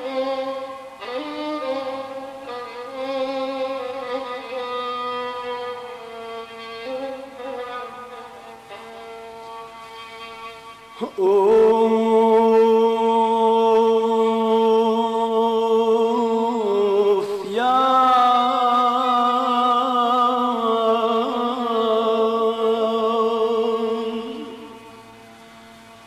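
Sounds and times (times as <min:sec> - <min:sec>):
man singing long held notes: 0:00.0 - 0:09.3, 0:10.8 - 0:25.4.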